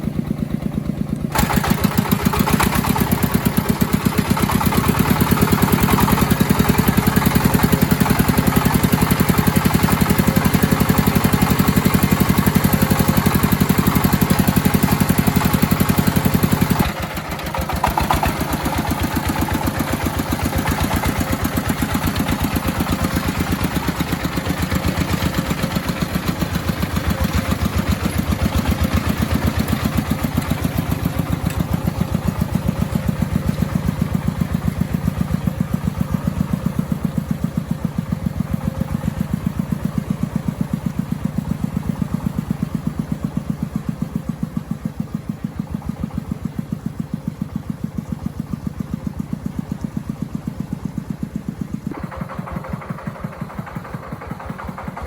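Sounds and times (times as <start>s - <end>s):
engine thumping steadily: 0.0s - 55.0s.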